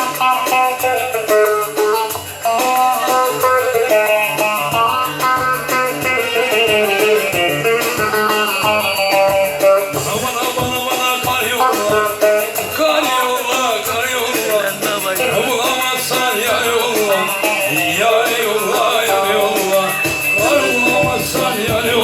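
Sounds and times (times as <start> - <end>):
plucked string instrument melody: 0.0 - 22.0
steady beat: 1.2 - 22.0.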